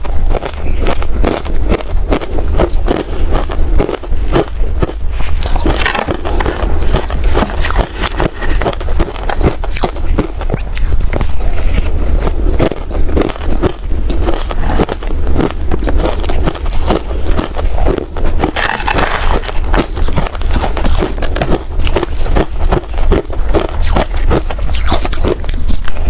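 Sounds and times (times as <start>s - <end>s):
ice crunching while chewed: 0.0s - 26.0s.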